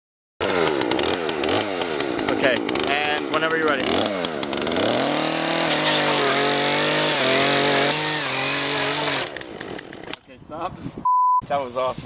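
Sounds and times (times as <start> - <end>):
chainsaw engine revving: 0.4 - 10.2.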